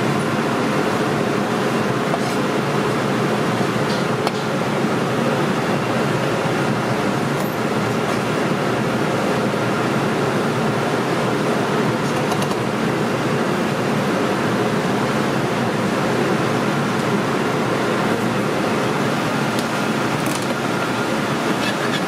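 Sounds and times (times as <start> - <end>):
ventilation fans roaring: 0.0 - 22.0.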